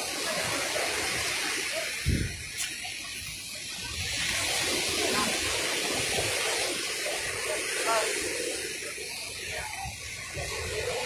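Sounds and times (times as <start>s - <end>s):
sea surf hissing: 0.0s - 11.0s.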